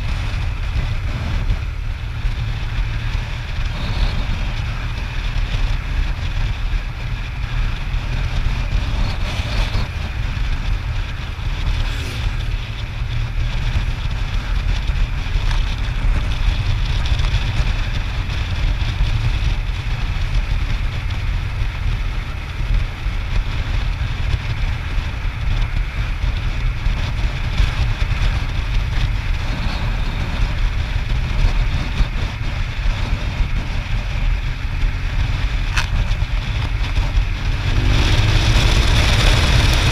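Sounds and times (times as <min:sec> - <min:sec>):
motorcycle engine and tyre noise: 0:00.0 - 0:39.9
wind buffeting microphone: 0:00.0 - 0:39.9.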